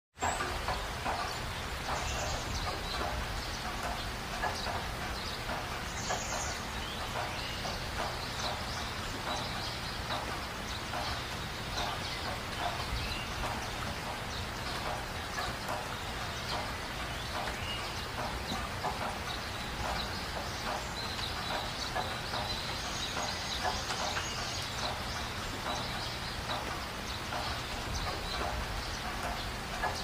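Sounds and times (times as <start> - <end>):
birds calling: 0.2 - 30.0
steady rain: 0.2 - 30.0.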